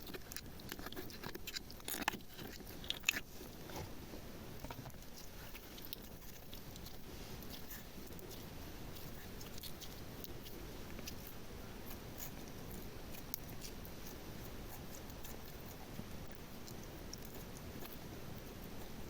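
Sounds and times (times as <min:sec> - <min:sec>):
slime squishing: 0:00.0 - 0:04.0, 0:04.6 - 0:19.0
small clicks and crackles: 0:00.0 - 0:19.0.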